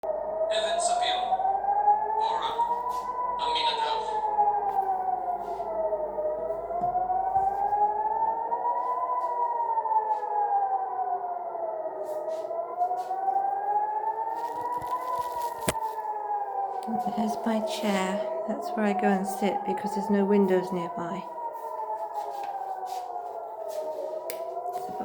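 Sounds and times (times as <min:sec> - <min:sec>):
air-raid siren wailing: 0:00.0 - 0:25.0.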